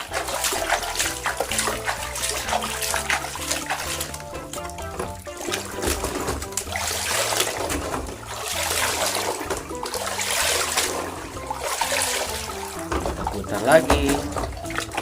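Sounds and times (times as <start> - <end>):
background music: 0.0 - 15.0
water splashing and trickling: 0.0 - 15.0.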